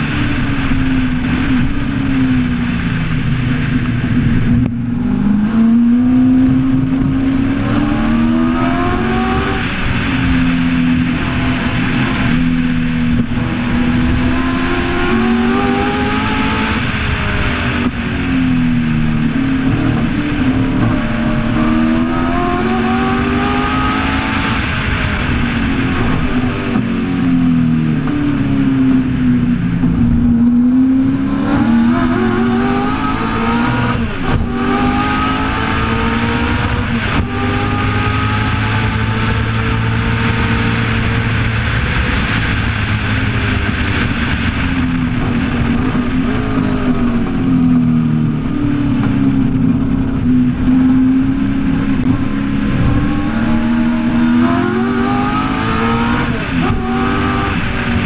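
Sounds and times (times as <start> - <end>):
car engine accelerating: 0.0 - 58.0
wind rush: 0.0 - 58.0.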